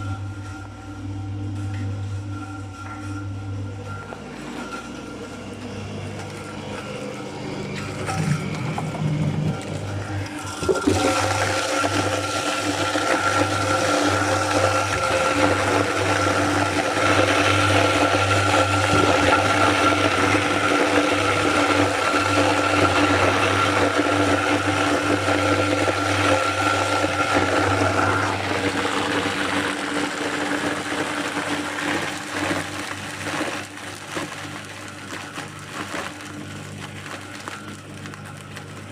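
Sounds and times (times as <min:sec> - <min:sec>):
motor humming: 0:00.0 - 0:38.9
apples being ground: 0:04.0 - 0:38.9.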